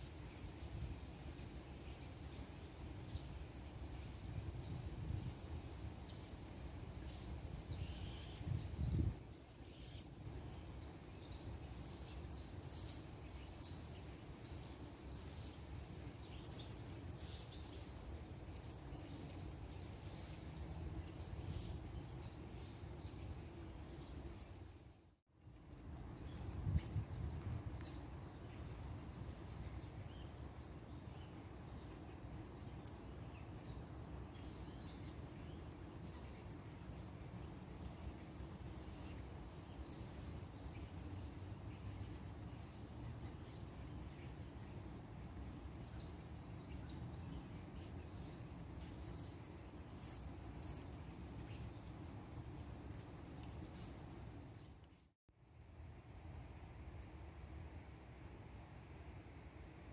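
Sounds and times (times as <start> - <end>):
small birds chirping: 0.0 - 55.2.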